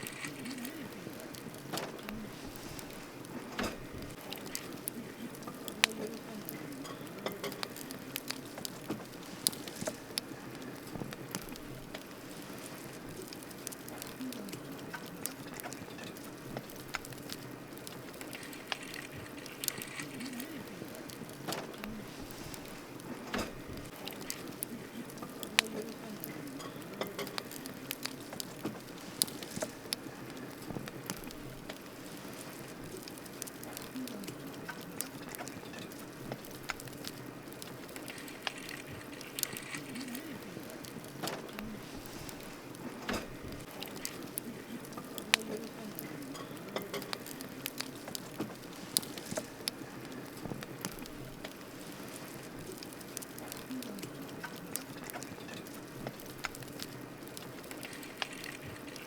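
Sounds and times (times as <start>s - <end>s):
campfire crackling and popping: 0.0s - 59.0s
low hiss of burning: 0.0s - 59.0s.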